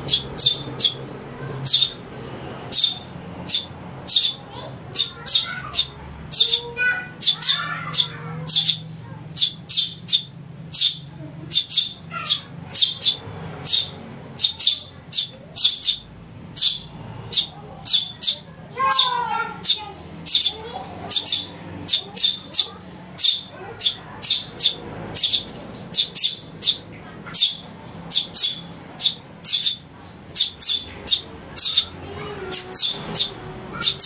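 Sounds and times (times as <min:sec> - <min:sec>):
sparrows chirping: 0:00.0 - 0:34.0.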